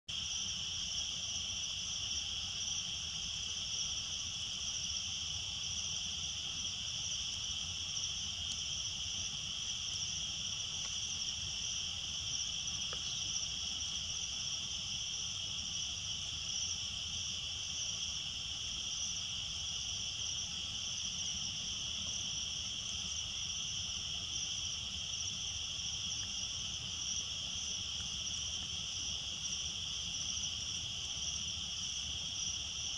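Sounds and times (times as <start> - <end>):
night insects trilling: 0.1 - 32.9.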